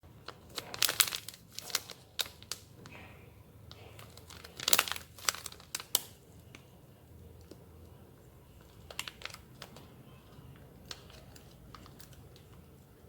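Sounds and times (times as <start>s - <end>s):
paper crinkling: 0.2s - 3.1s, 3.7s - 6.7s, 7.4s - 13.0s.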